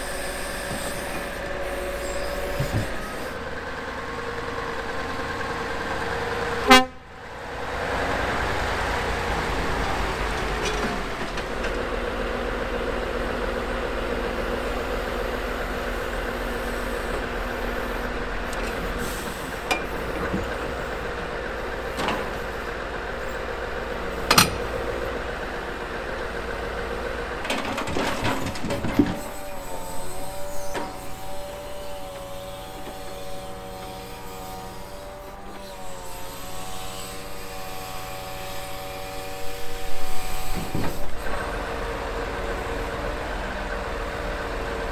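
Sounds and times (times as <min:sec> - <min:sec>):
crane whine: 0:00.0 - 0:44.9
diesel truck engine running: 0:00.0 - 0:44.9.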